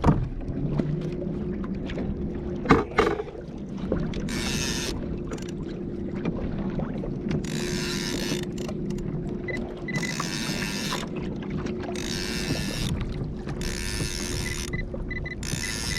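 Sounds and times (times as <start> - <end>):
water splashing around kayak: 0.0 - 15.9.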